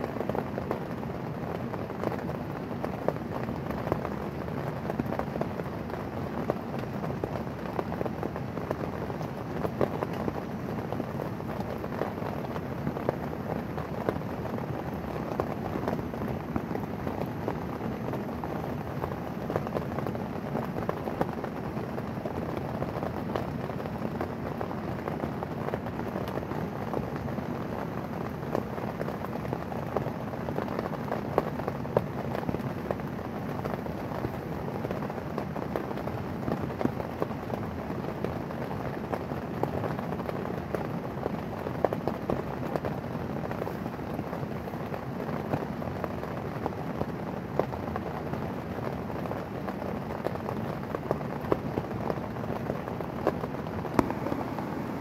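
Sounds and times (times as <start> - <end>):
heavy rain on a tent: 0.0 - 55.0.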